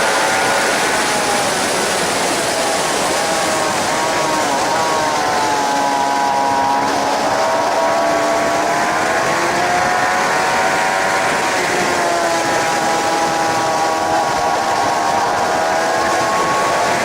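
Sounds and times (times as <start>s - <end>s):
motorcycle engine pulling hard: 0.0s - 17.0s
wind noise: 0.0s - 17.0s.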